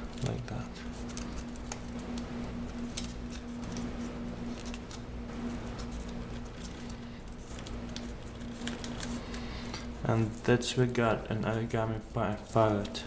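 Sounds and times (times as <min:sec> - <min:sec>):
paper crinkling: 0:00.0 - 0:13.0
sharp paper ticks: 0:00.0 - 0:13.0
steady low hum: 0:00.0 - 0:13.0.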